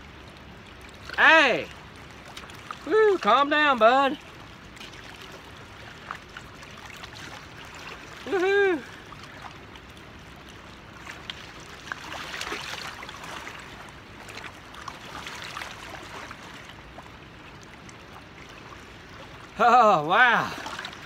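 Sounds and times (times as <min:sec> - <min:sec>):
river water washing along bank: 0:00.0 - 0:21.0.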